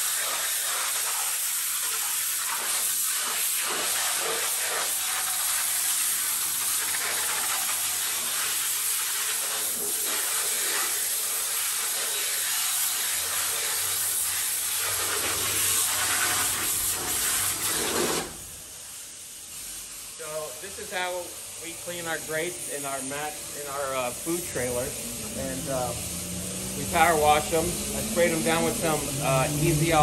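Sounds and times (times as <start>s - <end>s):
pressure washer spraying water: 0.0s - 30.0s.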